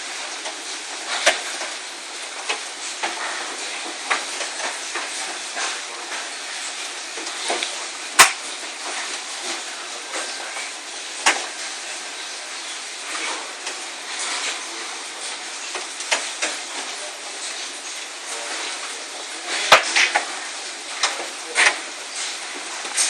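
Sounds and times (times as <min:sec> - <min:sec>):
hissing downpour: 0:00.0 - 0:23.0.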